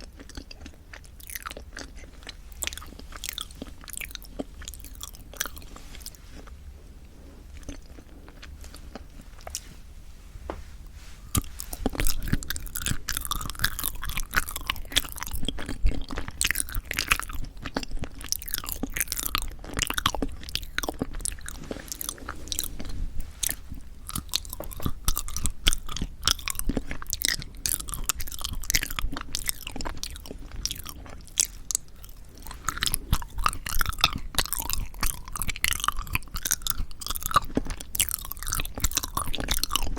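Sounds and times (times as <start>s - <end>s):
close chewing mouth sounds: 0.0s - 9.7s, 11.0s - 39.9s.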